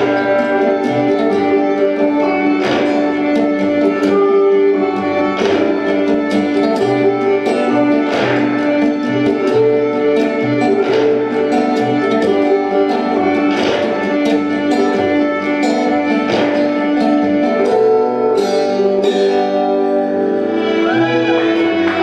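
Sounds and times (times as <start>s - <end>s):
plucked string notes: 0.0s - 22.0s.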